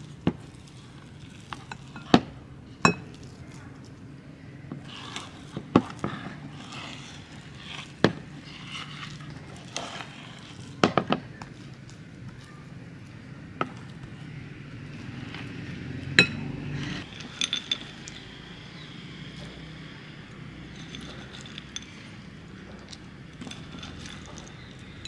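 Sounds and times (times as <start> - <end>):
wooden spoon scraping bowls: 0.0 - 25.0.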